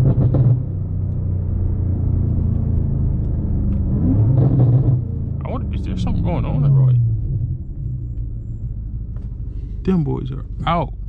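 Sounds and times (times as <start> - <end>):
car engine rumbling while driving: 0.0 - 11.0.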